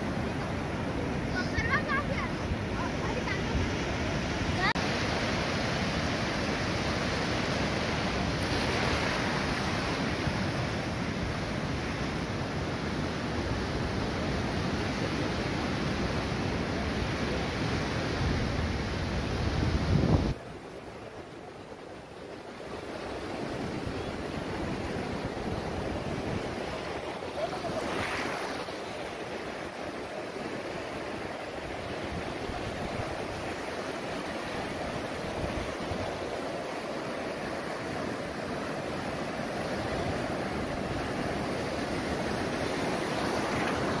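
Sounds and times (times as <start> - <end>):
surf waves breaking on beach: 0.0 - 44.0.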